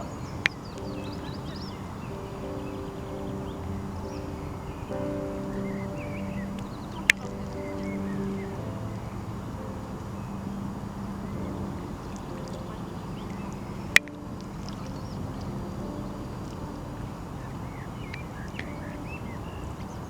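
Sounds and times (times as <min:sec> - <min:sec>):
faint bird chirps: 0:00.0 - 0:20.0
low held music notes: 0:00.0 - 0:20.0
steady rushing noise: 0:00.0 - 0:20.0.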